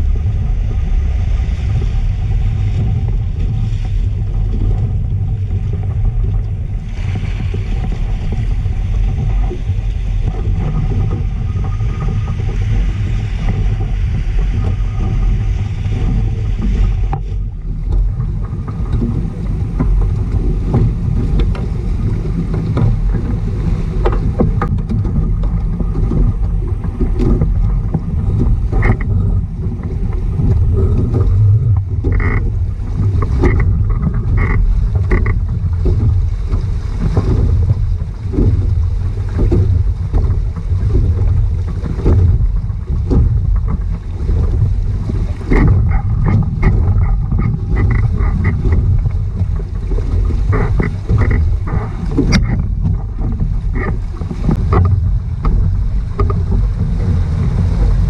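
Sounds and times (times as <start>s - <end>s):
water washing along hulls: 0.0s - 58.0s
wind buffeting microphone: 0.0s - 58.0s.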